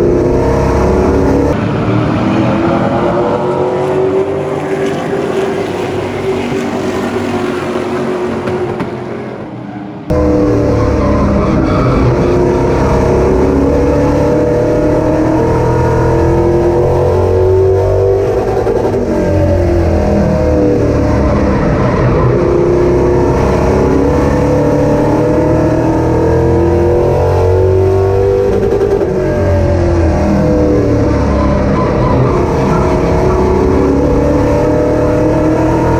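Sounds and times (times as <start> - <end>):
race car engines: 0.0 - 35.9.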